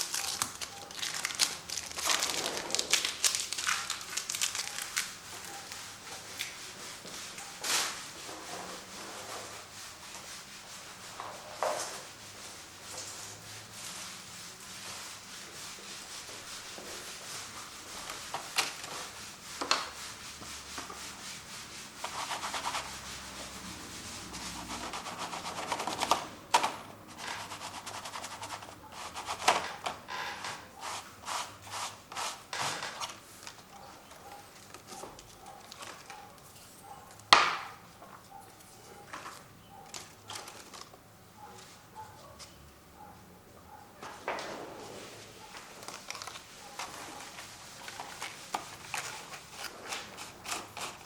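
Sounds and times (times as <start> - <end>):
paint scrubbing on canvas: 0.0 - 29.9, 30.6 - 37.0, 44.8 - 51.0.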